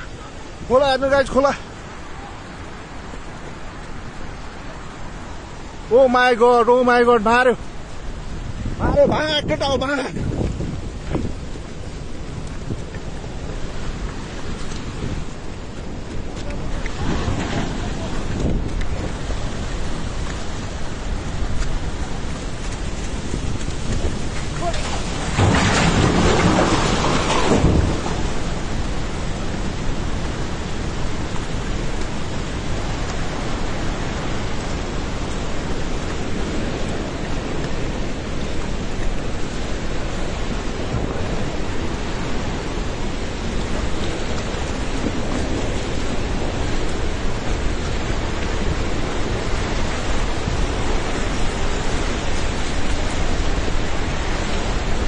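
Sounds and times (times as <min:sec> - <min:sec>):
flood water rushing: 0:00.0 - 0:55.0.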